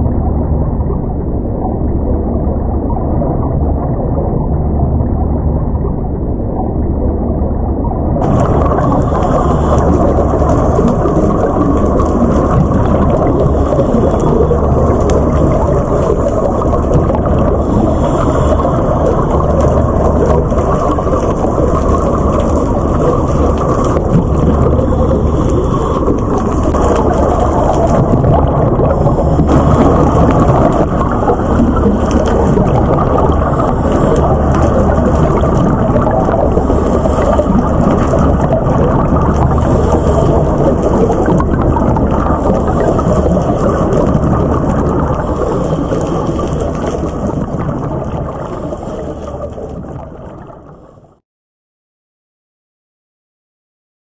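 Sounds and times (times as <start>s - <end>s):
muffled underwater rumble and crackle: 0.0s - 51.2s.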